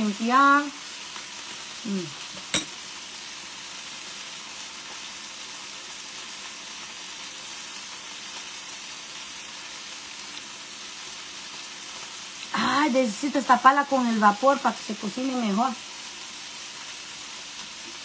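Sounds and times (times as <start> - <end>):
chicken wings sizzling in a pan: 0.0 - 18.0.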